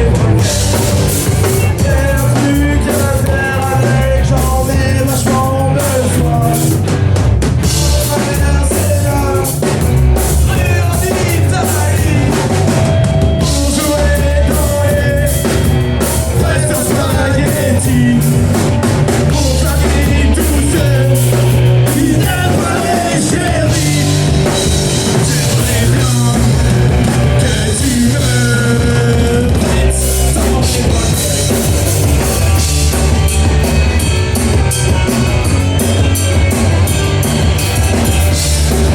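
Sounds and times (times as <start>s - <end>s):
person singing: 0.0s - 6.9s, 7.6s - 38.9s
bass guitar: 0.0s - 38.9s
distorted electric guitars: 0.0s - 38.9s
pounding drum kit: 0.0s - 38.9s.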